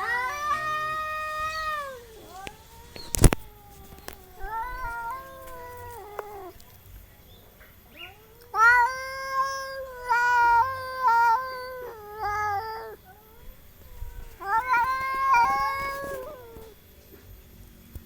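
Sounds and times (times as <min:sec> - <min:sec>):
cats yowling: 0:00.0 - 0:16.8.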